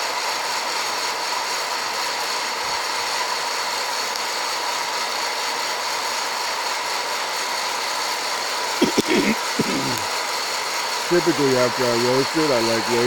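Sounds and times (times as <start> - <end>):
coffee roaster fan blowing: 0.0 - 13.0.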